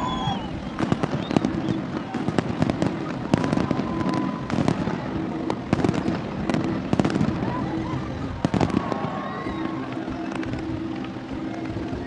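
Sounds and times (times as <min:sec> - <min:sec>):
crowd murmur: 0:00.0 - 0:12.0
fireworks bangs and crackles: 0:00.0 - 0:12.0.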